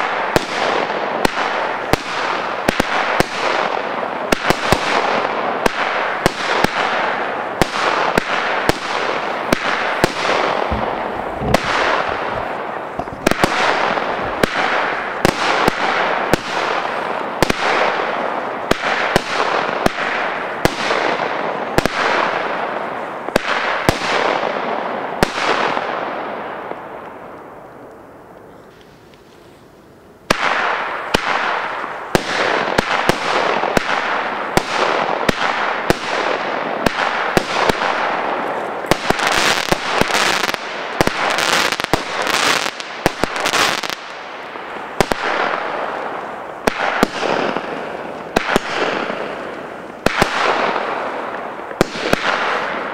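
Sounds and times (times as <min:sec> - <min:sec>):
firework shots with hiss: 0:00.0 - 0:27.7, 0:30.2 - 0:52.9.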